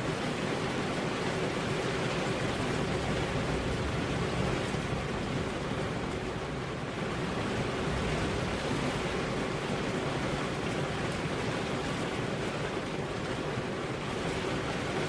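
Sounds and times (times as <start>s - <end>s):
rain with wind: 0.0s - 15.0s.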